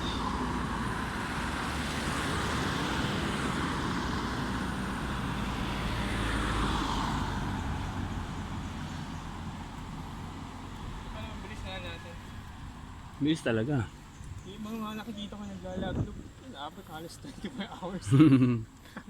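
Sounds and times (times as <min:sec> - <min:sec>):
low road rumble: 0:00.0 - 0:19.0
vehicles passing: 0:00.0 - 0:19.0.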